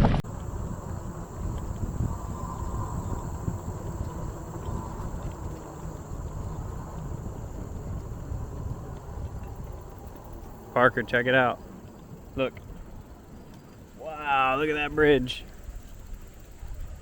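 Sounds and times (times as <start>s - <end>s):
low rumble: 0.0s - 17.0s
insects trilling: 0.2s - 17.0s.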